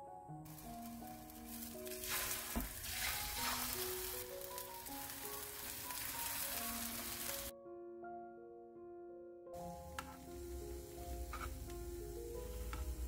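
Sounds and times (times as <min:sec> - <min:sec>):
food sizzling in hot oil: 0:00.5 - 0:07.5, 0:09.6 - 0:13.0.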